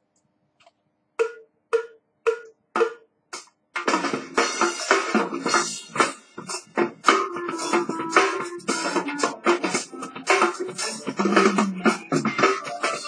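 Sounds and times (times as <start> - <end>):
band playing with drum kit: 2.3 - 13.0.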